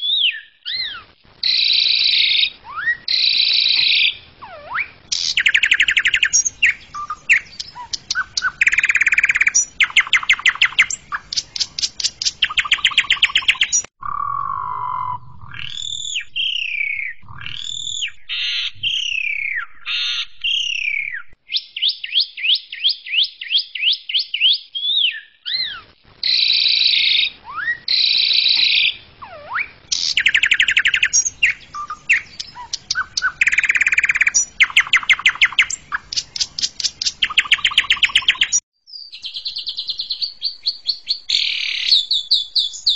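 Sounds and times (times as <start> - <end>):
starling singing: 0.0 - 21.4, 25.1 - 42.9.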